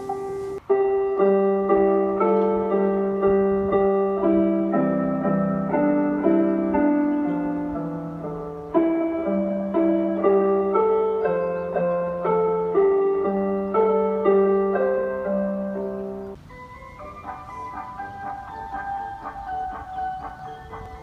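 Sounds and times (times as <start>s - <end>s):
electronic chime melody: 0.0s - 21.0s.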